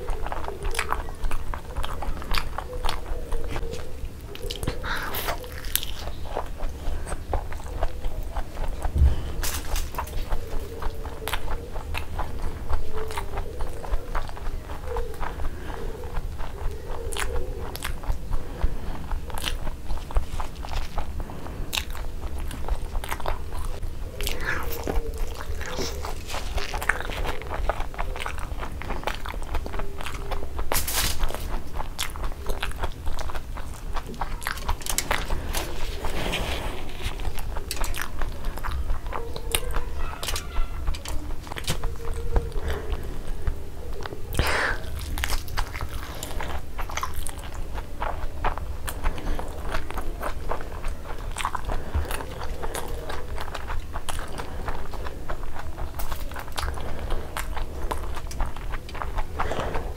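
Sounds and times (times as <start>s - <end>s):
chewing with wet mouth clicks: 0.0s - 59.9s
soft crunches of fried egg: 0.0s - 59.9s.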